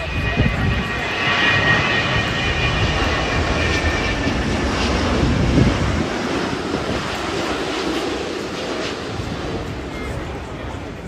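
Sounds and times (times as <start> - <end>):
airliner jet roar overhead: 0.0 - 11.0.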